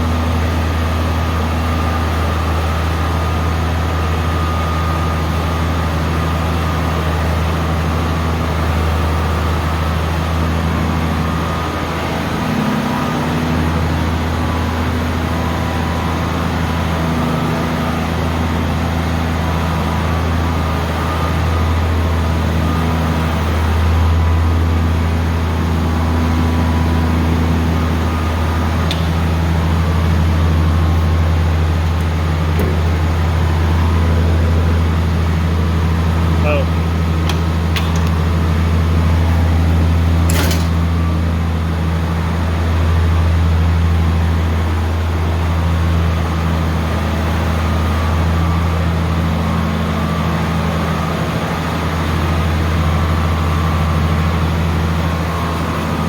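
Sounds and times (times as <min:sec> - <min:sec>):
combine harvester engine humming: 0:00.0 - 0:56.0.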